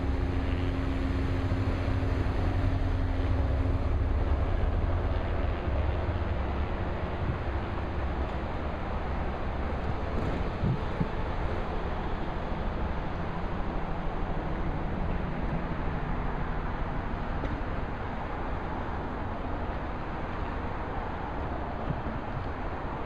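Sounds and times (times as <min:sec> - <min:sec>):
car engines rumbling: 0:00.0 - 0:23.0
tyres on road: 0:00.0 - 0:23.0
wind on microphone: 0:00.0 - 0:23.0.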